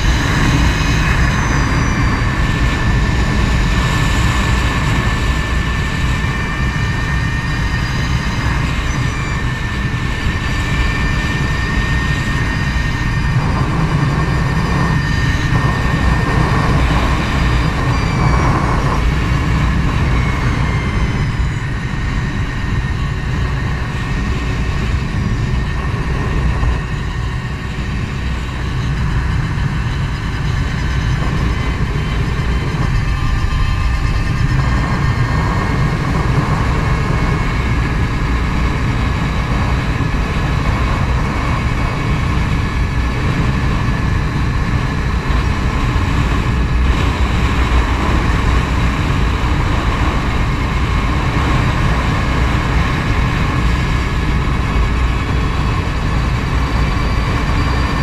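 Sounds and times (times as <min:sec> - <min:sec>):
electric motor whine: 0:00.0 - 0:58.0
wind rush on microphone: 0:00.0 - 0:58.0.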